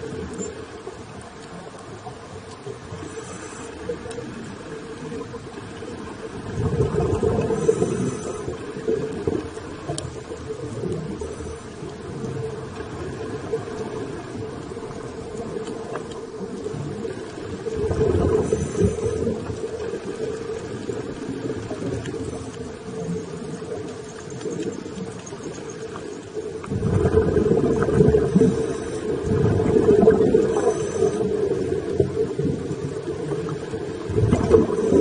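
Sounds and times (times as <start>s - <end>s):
muffled underwater noise: 0.0s - 35.0s
regulator bubbling: 4.2s - 35.0s.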